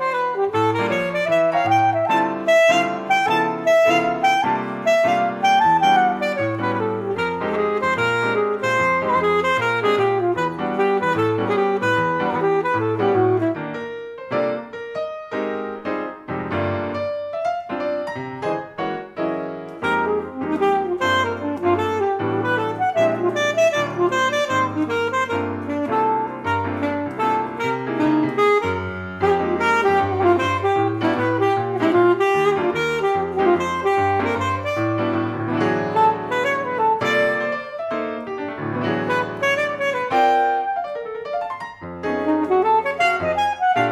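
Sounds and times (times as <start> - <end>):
alto saxophone melody: 0.0 - 43.9
piano chords: 0.0 - 43.9.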